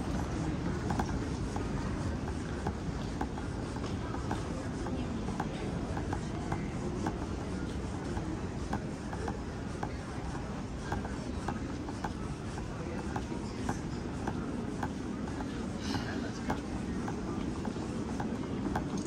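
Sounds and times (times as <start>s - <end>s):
murmur of voices: 0.0s - 19.0s.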